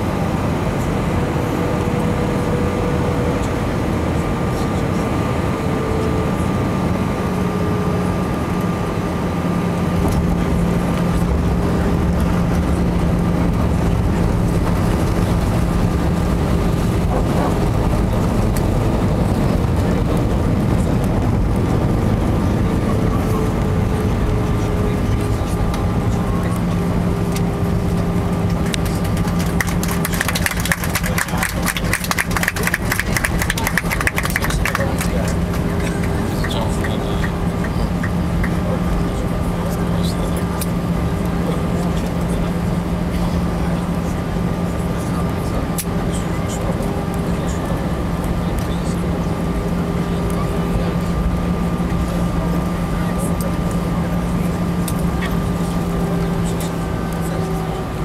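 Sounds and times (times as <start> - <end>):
airliner cabin engine hum: 0.0 - 58.0.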